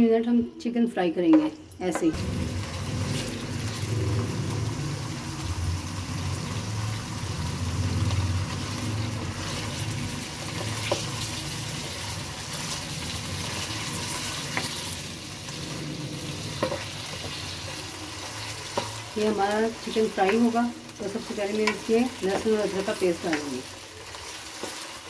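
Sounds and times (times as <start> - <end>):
chicken sizzling in hot oil: 2.1 - 25.0.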